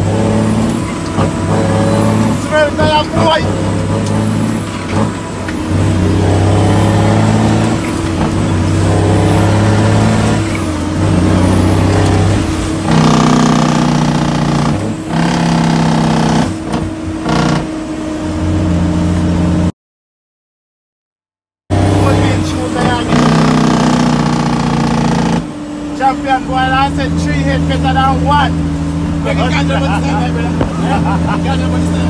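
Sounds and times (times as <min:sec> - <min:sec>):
truck diesel engine shifting gears: 0:00.0 - 0:19.7, 0:21.7 - 0:32.0.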